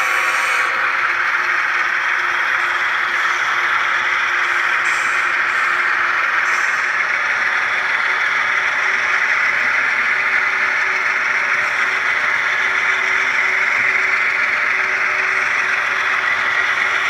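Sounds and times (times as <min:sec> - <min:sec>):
hissy diesel engine sound: 0:00.0 - 0:17.0.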